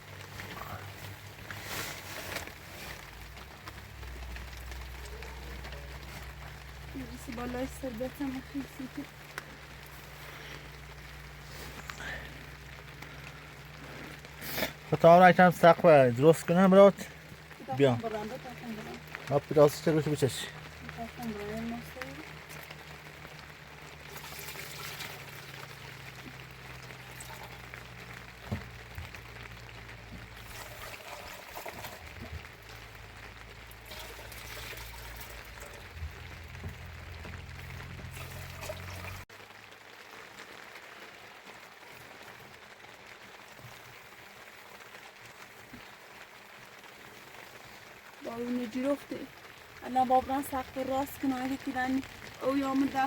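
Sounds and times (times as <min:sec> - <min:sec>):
water trickling and pouring: 0:00.0 - 0:53.0.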